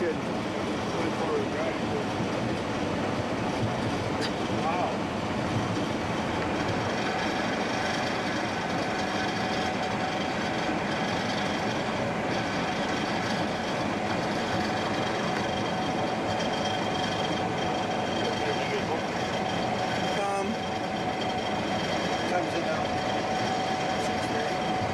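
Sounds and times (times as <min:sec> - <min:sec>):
combine harvester drone: 0:00.0 - 0:24.9
faint steady whine: 0:00.0 - 0:24.9.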